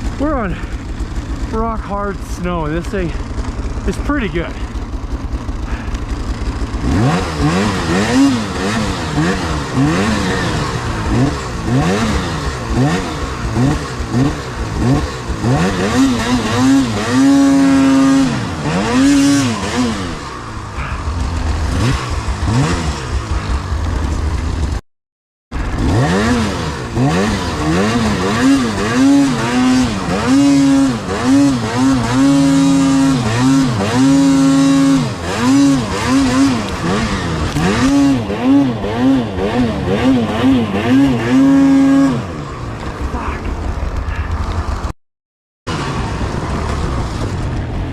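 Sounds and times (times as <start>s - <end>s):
snowmobile engine revving: 0.0s - 24.8s, 25.6s - 44.9s, 45.7s - 47.9s.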